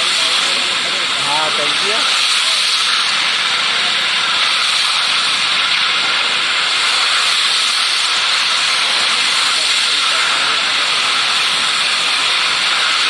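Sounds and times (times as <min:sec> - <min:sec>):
gas hissing under pressure: 0:00.0 - 0:13.0.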